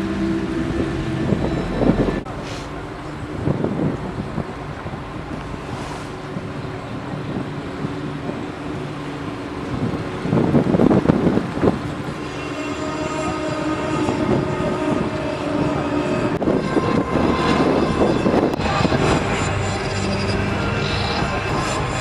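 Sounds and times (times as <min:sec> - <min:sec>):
droning tones over loudspeakers: 0:00.0 - 0:22.0
wind gusting on microphone: 0:00.0 - 0:22.0.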